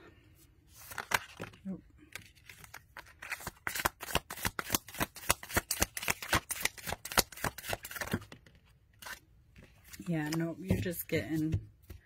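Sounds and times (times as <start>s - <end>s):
tarot cards shuffling: 0.7s - 12.0s.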